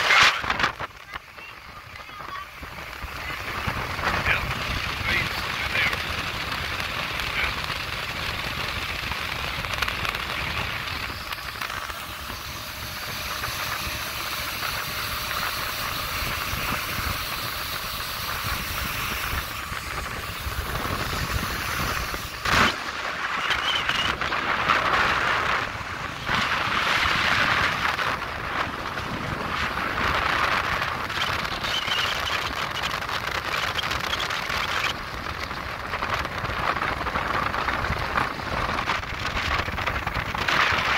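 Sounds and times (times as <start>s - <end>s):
rush of water: 0.0s - 40.9s
wind noise: 0.0s - 40.9s.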